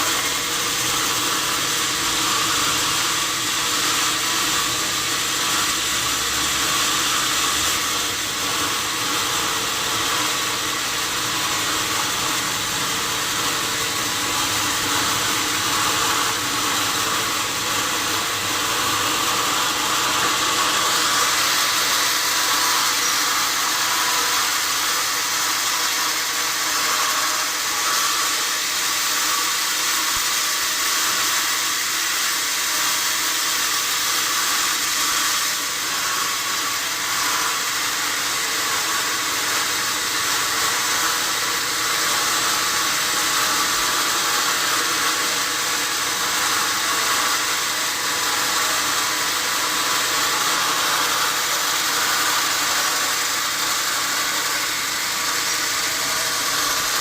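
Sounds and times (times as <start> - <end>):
sawmill saw cutting wood: 0.0 - 57.0.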